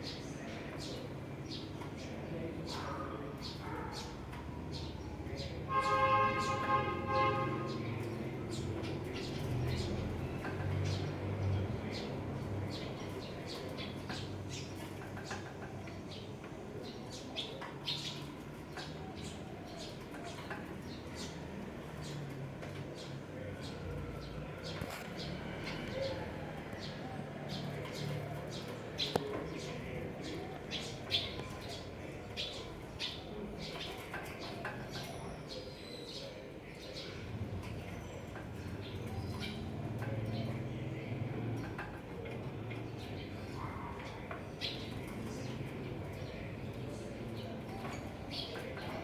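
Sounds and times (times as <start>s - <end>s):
birds chirping: 0.0s - 49.0s.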